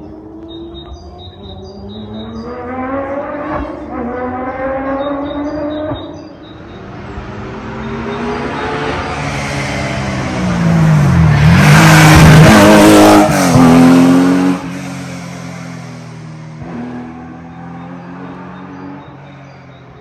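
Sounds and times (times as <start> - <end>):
rally car engine passing: 0.0 - 19.9.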